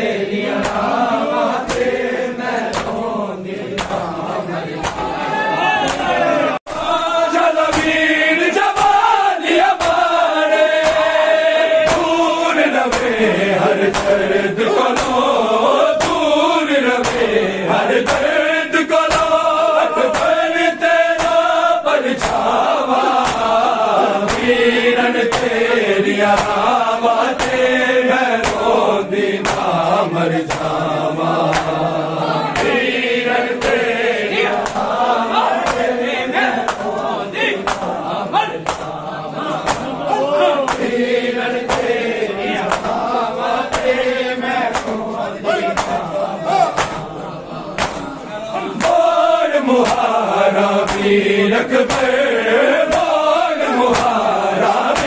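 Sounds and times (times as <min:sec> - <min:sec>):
men chanting in unison: 0:00.0 - 0:55.0
hands slapping chests: 0:00.3 - 0:55.0.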